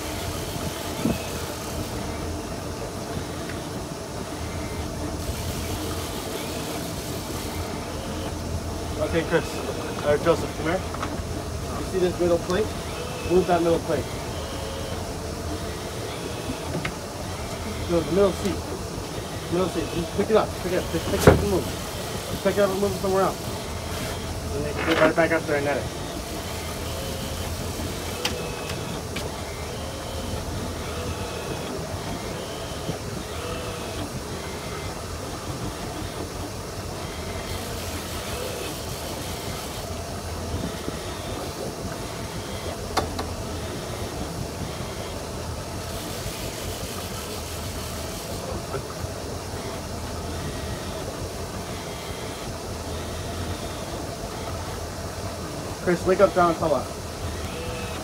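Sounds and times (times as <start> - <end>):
boat engine running: 0.0 - 58.0
hiss of wind and water: 0.0 - 58.0.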